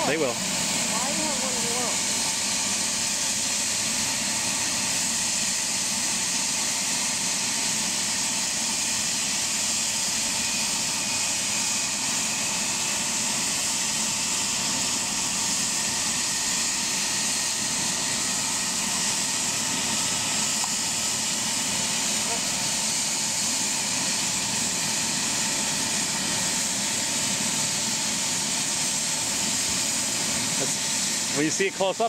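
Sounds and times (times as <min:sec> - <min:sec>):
helicopter turbine engines idling: 0:00.0 - 0:32.0.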